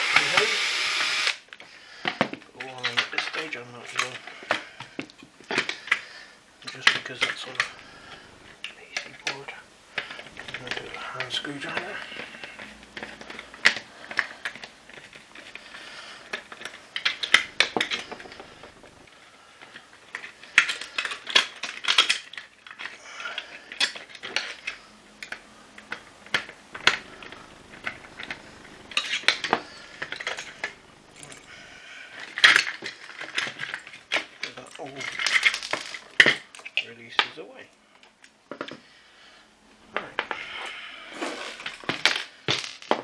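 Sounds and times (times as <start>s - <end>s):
plastic parts clicking and clattering: 1.5s - 38.8s, 39.9s - 40.5s, 41.1s - 43.0s.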